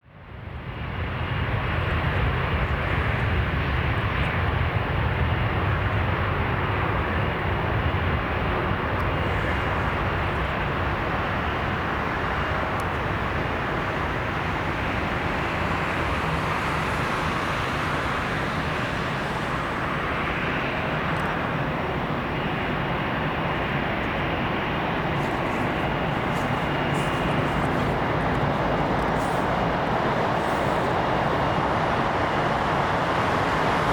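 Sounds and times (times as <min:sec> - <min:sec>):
jet engines roaring: 0:00.2 - 0:33.9.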